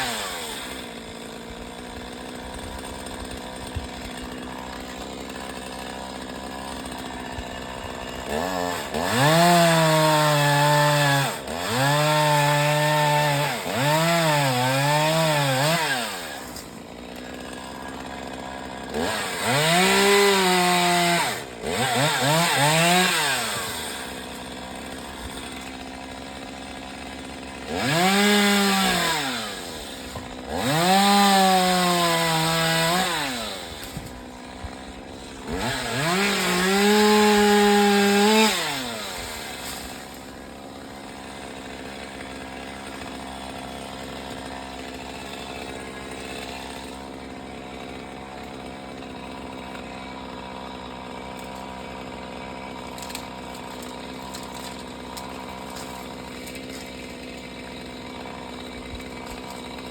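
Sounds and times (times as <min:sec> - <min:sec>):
chainsaw idling: 0:00.0 - 0:59.9
chainsaw revving: 0:00.0 - 0:59.9.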